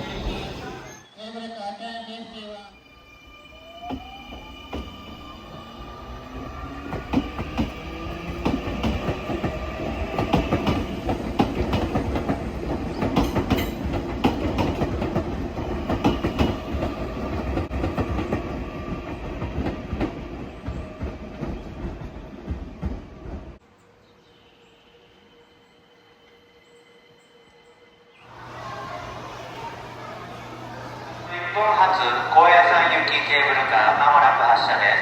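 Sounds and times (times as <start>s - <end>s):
train whine and rumble: 0.0s - 35.0s.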